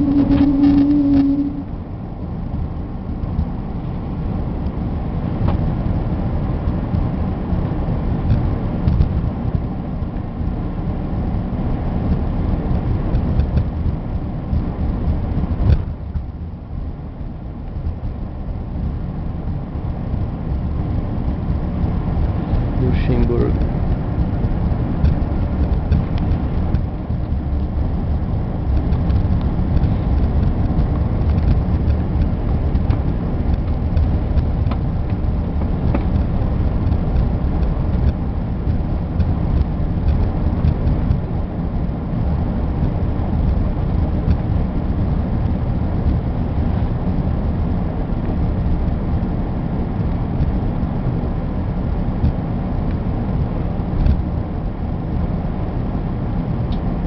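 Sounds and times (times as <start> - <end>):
airliner cabin rumble while taxiing: 0.0 - 57.0.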